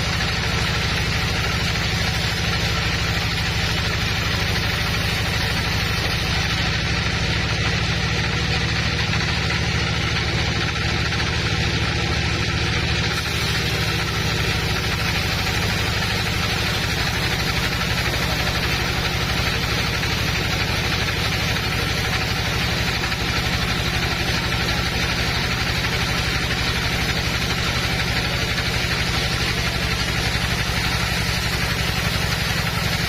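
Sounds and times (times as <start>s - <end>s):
woodworking machinery humming: 0.0s - 33.0s.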